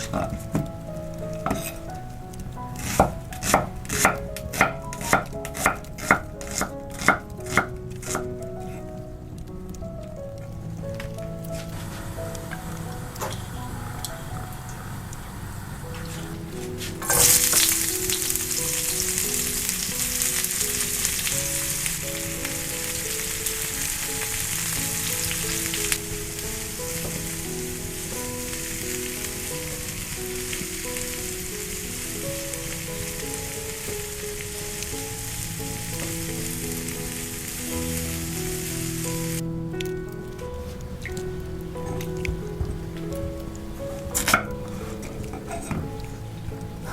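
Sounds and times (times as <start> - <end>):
soft background music: 0.0 - 46.9.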